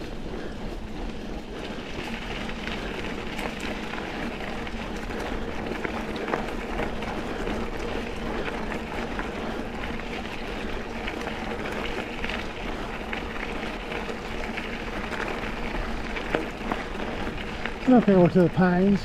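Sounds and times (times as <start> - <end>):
bike clicks and rattles: 0.0 - 19.0
bike tyres rolling on dirt: 0.0 - 19.0.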